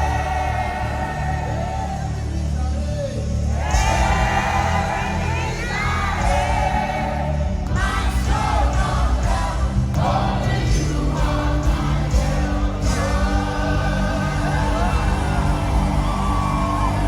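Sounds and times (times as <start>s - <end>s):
voices singing together: 0.0s - 2.3s, 3.4s - 17.0s
amplified band with strong bass: 0.0s - 17.0s.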